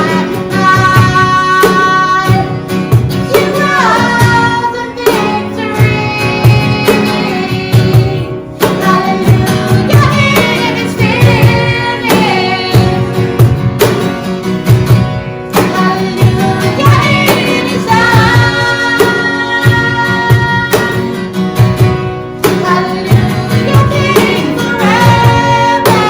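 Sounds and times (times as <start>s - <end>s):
woman singing: 0.0s - 13.3s, 15.6s - 21.3s, 22.4s - 26.0s
acoustic guitar: 0.0s - 26.0s.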